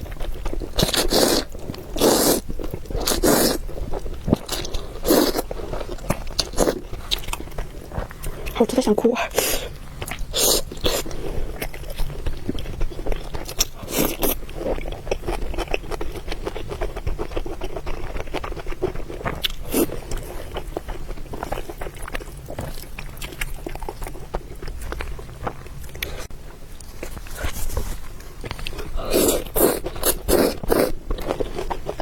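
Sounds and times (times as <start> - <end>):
chewing and biting food: 0.0 - 8.6, 9.7 - 32.0.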